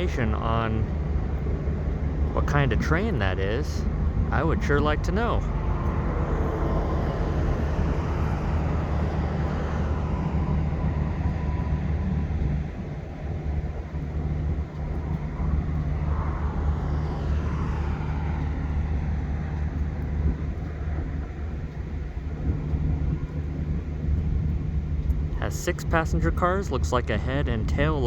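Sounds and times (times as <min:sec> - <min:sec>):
low engine hum: 0:00.0 - 0:28.0
wind noise on microphone: 0:00.0 - 0:28.0.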